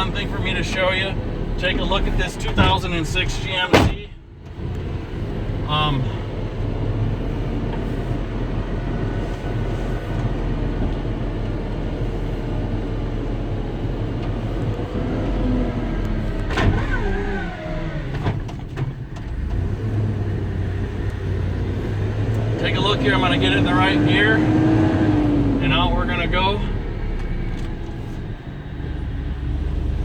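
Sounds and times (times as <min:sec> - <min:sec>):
truck engine idling: 0:00.0 - 0:24.5.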